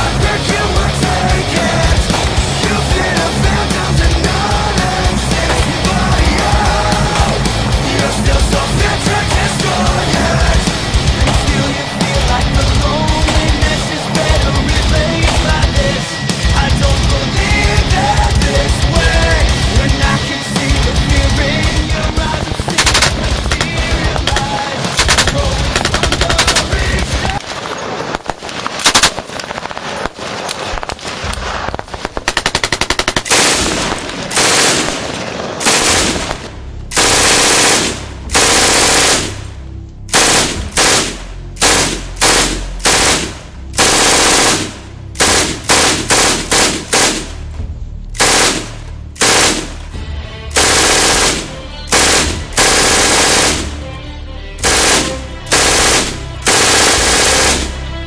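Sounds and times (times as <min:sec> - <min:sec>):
machine-gun fire: 0:00.0 - 0:39.5, 0:40.1 - 0:47.5, 0:48.2 - 0:49.8, 0:50.6 - 0:53.8, 0:54.6 - 0:57.8.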